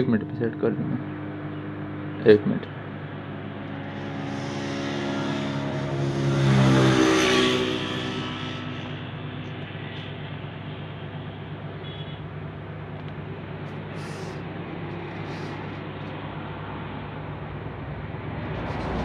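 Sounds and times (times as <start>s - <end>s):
vehicle passing: 0.0s - 19.0s.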